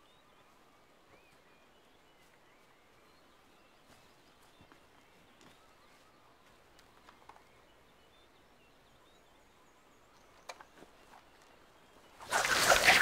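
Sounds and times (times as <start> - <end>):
jungle ambience: 0.0 - 13.0.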